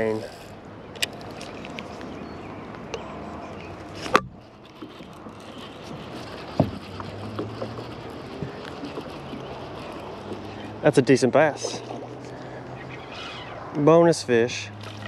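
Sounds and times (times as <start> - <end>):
rain on water and kayak: 0.0 - 13.9, 14.7 - 15.0.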